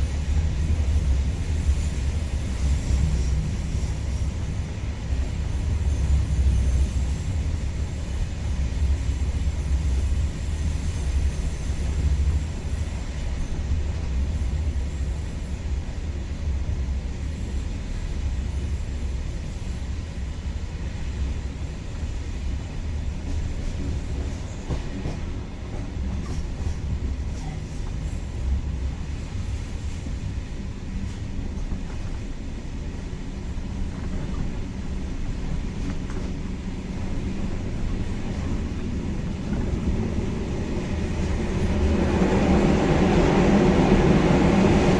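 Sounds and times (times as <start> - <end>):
train rumble: 0.0 - 44.9.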